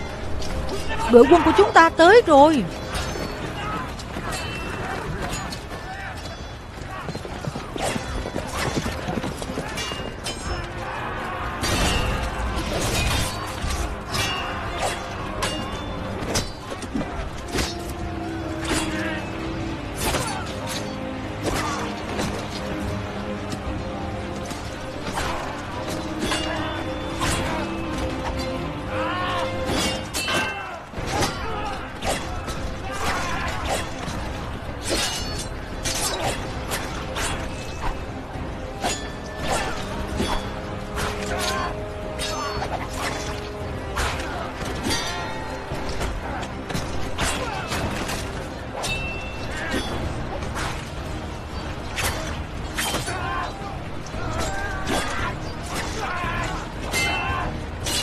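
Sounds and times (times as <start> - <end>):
weapons clashing: 0.0 - 22.8, 24.4 - 58.0
background music: 0.0 - 58.0.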